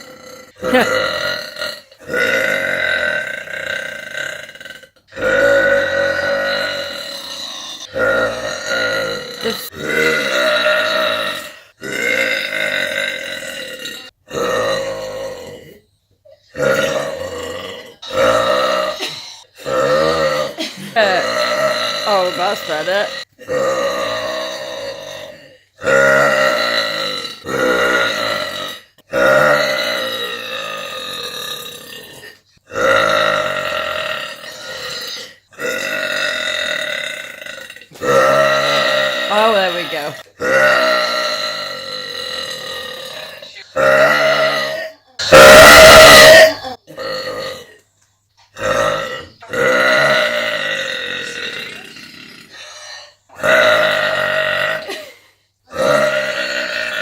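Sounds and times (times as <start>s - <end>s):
woman belching: 0.0s - 15.8s, 16.6s - 47.8s, 48.6s - 52.5s, 53.4s - 57.0s
woman burping: 0.0s - 15.8s, 16.6s - 47.8s, 48.6s - 52.5s, 53.4s - 57.0s.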